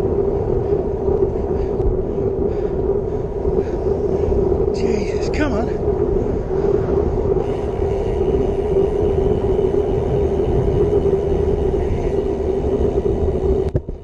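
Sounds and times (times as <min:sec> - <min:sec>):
bike tyre rumble on tarmac: 0:00.0 - 0:14.0
constant low hum: 0:00.0 - 0:14.0
wind noise on microphone: 0:00.0 - 0:14.0.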